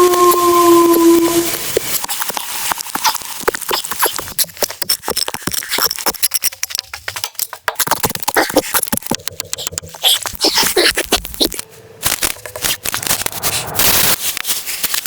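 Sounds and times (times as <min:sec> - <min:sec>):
dense crackling and snapping: 0:01.0 - 0:15.0.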